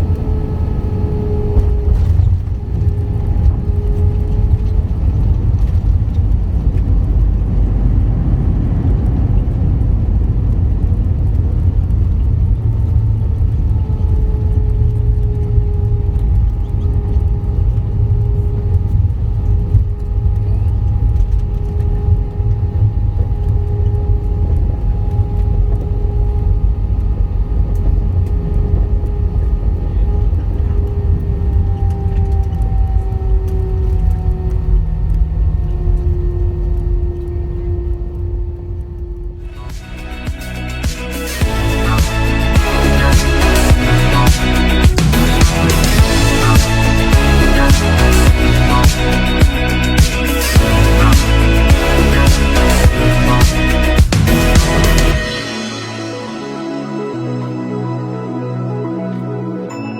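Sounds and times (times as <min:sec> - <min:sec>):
airliner cabin rumble: 0:00.0 - 0:57.6
jet engines whining: 0:00.0 - 0:59.7.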